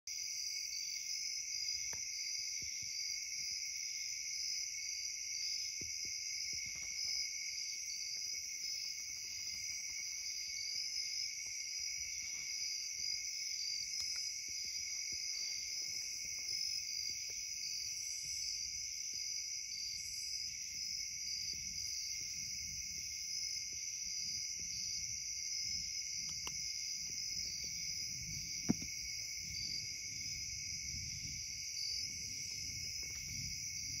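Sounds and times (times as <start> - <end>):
insects chirping: 0.1 - 34.0.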